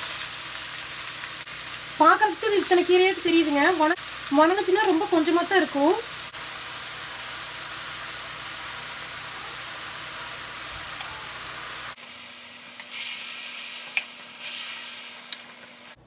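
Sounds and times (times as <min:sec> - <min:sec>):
spinach sizzling in hot oil: 0:00.0 - 0:16.0.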